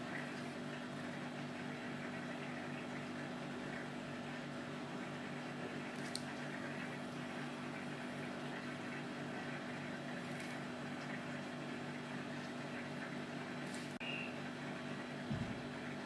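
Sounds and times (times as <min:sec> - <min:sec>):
low room equipment hum: 0:00.0 - 0:16.0.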